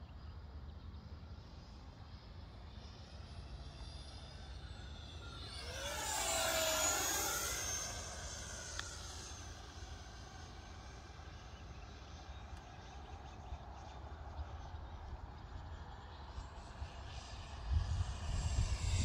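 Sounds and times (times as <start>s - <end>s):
model jet fans whining: 0.0s - 19.0s.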